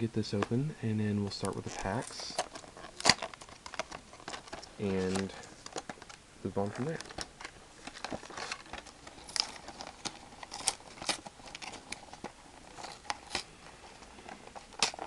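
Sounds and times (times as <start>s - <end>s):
packaging being torn and crinkled: 1.4s - 15.0s.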